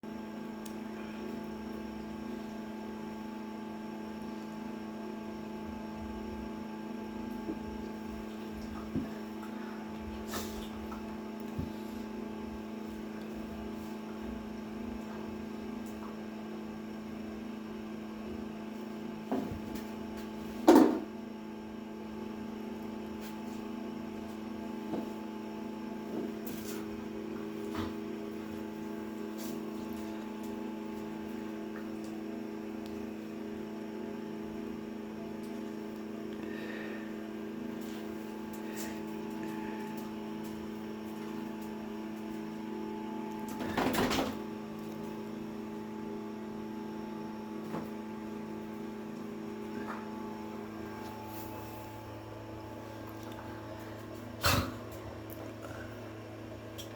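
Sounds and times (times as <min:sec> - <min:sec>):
electrical hum: 0:00.0 - 0:56.9.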